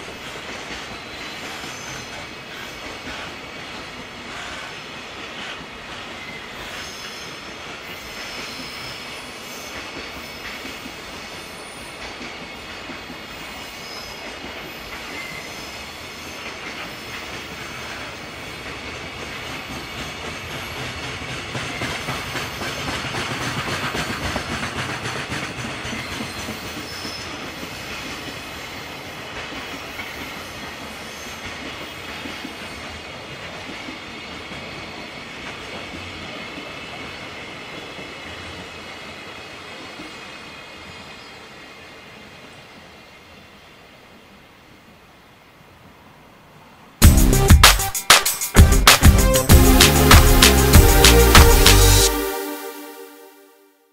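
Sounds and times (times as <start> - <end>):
train wheels rumbling on rails: 0.0 - 43.5.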